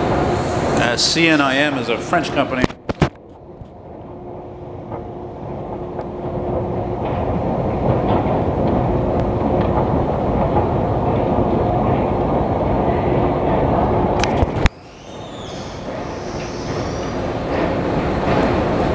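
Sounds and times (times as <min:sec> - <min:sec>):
mechanical rumble with clatter: 0:00.0 - 0:18.9.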